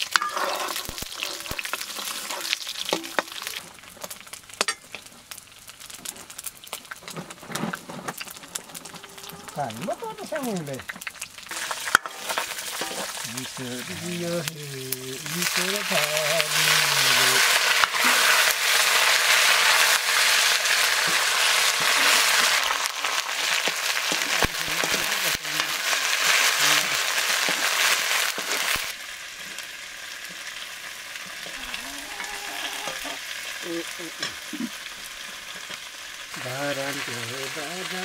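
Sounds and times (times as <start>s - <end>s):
cabbage sizzling in hot oil: 0.0s - 38.0s.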